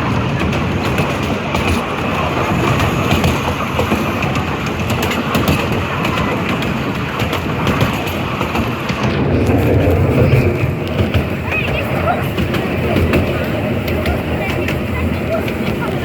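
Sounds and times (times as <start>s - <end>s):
train wheels clicking over rail joints: 0.0s - 16.0s.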